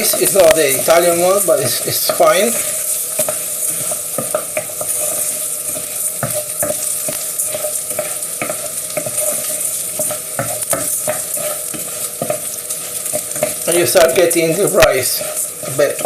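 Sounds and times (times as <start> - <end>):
rice and onion sizzling in pan: 0.0 - 16.0
spoon scraping and tapping pan: 0.0 - 16.0.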